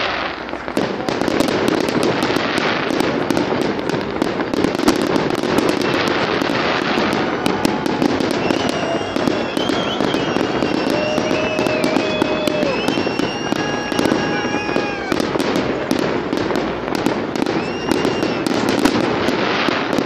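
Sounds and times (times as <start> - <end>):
fireworks crackling and popping: 0.0 - 20.0.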